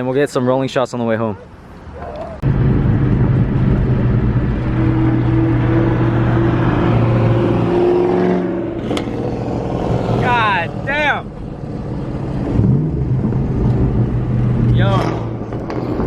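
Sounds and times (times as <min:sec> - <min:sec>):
car exhaust droning: 0:02.4 - 0:16.0.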